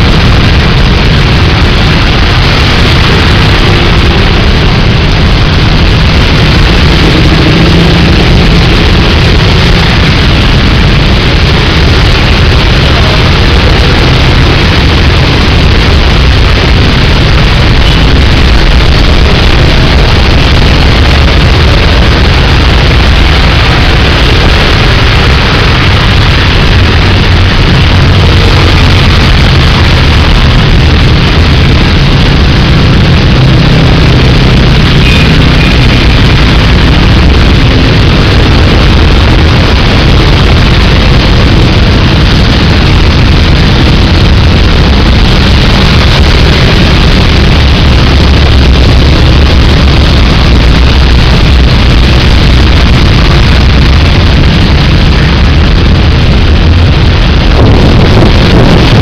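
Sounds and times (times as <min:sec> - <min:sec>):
deep rumble: 0:00.0 - 0:59.0
heavy rain: 0:00.0 - 0:59.0
strong wind: 0:00.0 - 0:59.0.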